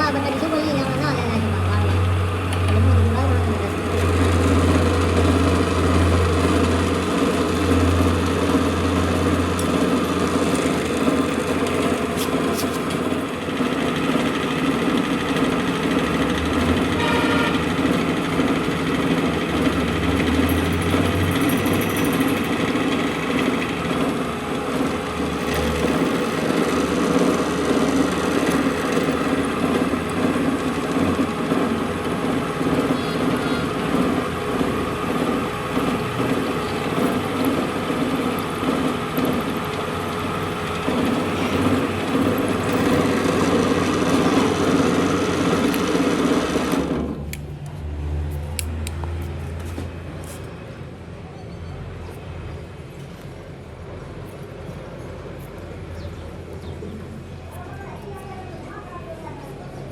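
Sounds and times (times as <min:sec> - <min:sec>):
workshop machine humming: 0:00.0 - 0:59.9.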